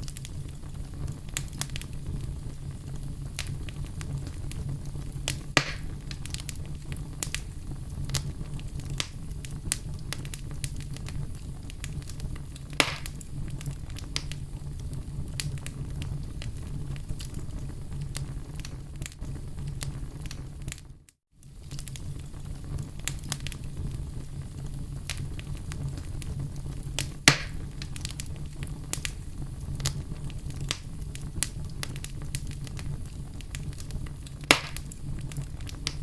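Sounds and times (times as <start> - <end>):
fire crackling in fireplace: 0.0 - 36.0
loud pops of fire: 0.0 - 36.0.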